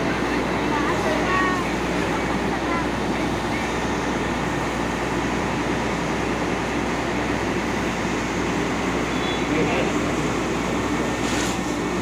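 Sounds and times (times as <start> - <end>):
fire truck engine running: 0.0 - 12.0.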